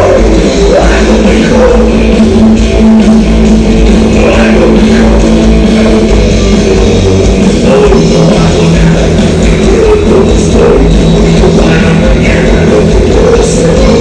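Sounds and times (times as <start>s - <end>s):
electric guitar and bass low note: 0.0s - 14.0s.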